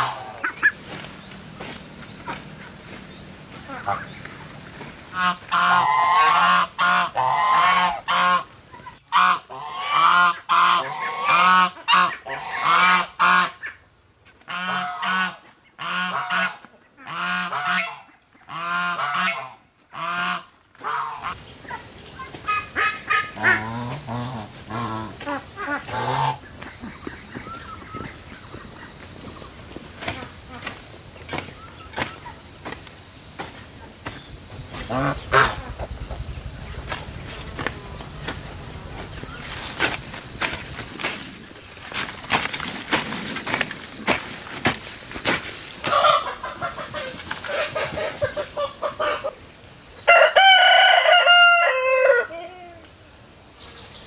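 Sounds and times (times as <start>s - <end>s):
geese honking: 0.0s - 13.8s, 14.4s - 21.4s, 22.4s - 32.5s, 33.4s - 44.2s, 45.8s - 49.4s.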